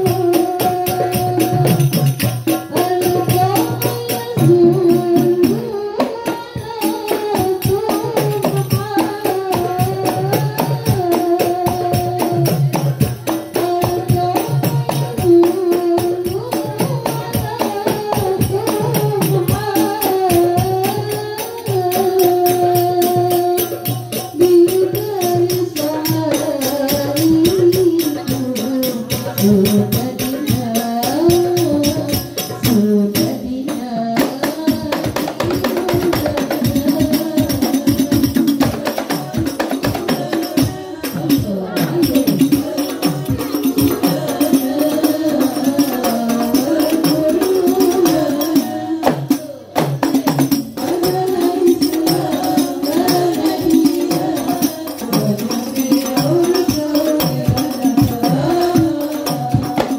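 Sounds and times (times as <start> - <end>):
devotional singing: 0.0 - 59.9.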